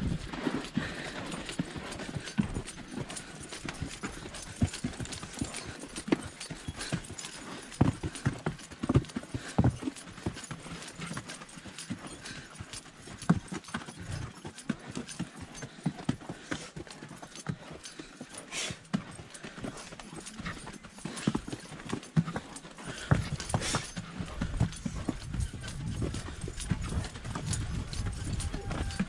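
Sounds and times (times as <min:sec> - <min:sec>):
horse hooves on dirt trail: 0:00.0 - 0:29.0.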